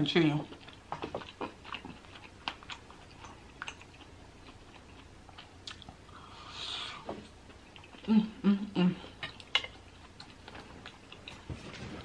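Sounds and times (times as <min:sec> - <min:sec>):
quiet chewing: 0:00.1 - 0:12.0.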